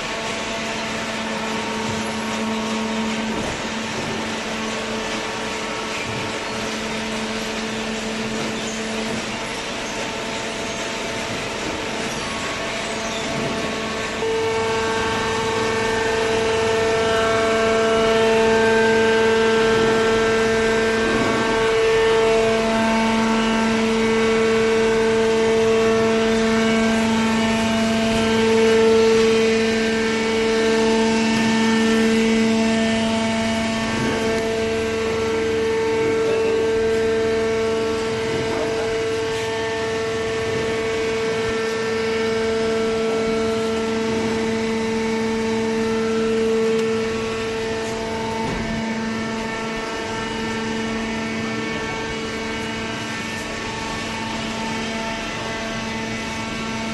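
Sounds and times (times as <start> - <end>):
hydraulic pump motor humming: 0.0 - 56.9.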